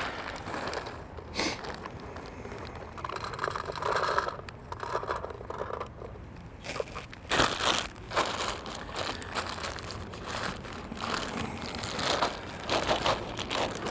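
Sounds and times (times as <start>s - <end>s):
scraping and rustling handling: 0.0s - 13.9s.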